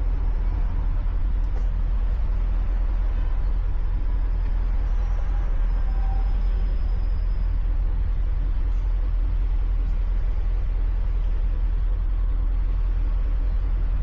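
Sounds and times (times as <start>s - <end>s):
car engine rumbling at cruise: 0.0s - 14.0s.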